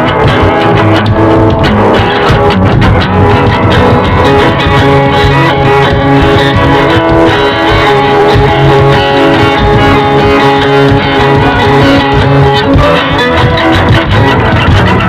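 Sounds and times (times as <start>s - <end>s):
loud background music: 0.0s - 15.0s.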